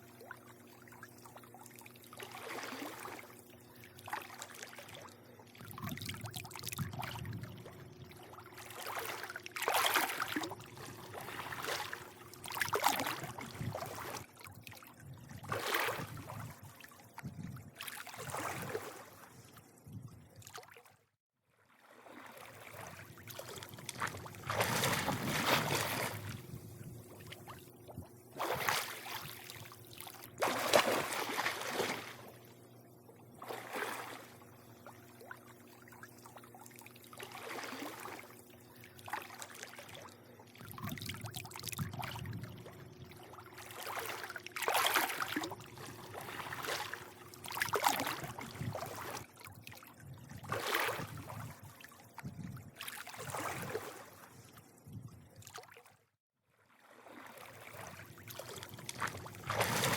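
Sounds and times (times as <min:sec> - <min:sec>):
steady low hum: 0:00.0 - 0:20.4, 0:22.6 - 0:53.4
pool water lapping and sloshing: 0:00.0 - 0:59.9.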